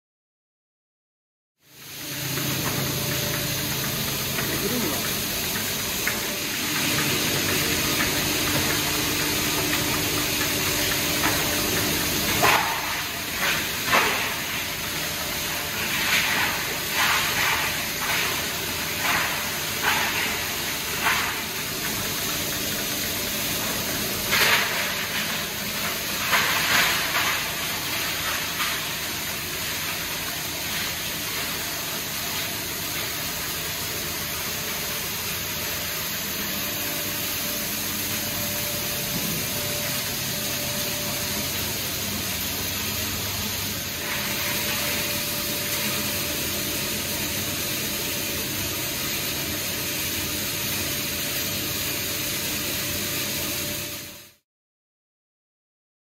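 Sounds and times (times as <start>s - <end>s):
plastic granulator grinding: 2.1s - 52.1s.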